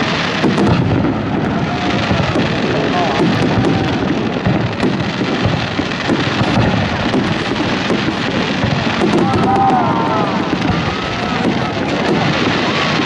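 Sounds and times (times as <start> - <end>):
fireworks crackling: 0.0 - 13.0
low rumbling booms: 0.0 - 13.0.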